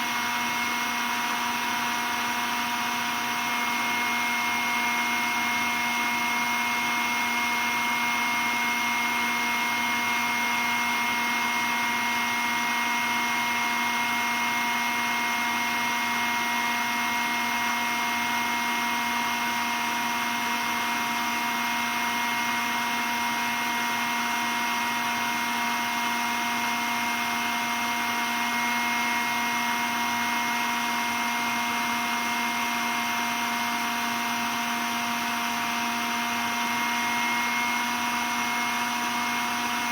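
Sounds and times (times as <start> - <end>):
stick vacuum cleaner running: 0.0 - 39.9.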